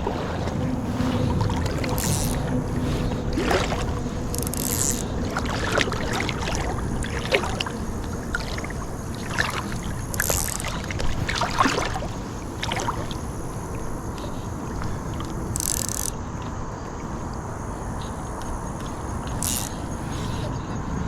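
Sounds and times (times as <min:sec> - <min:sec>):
small splashes: 0:00.0 - 0:20.5
flowing river water: 0:00.0 - 0:21.0
wind buffeting microphone: 0:00.0 - 0:21.0.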